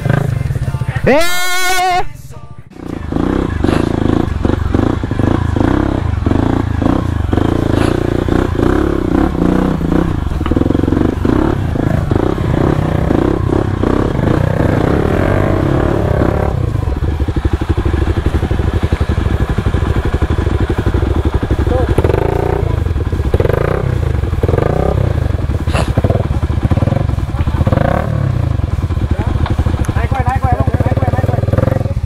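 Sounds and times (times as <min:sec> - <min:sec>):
motorcycle engine under load: 0:02.7 - 0:32.0.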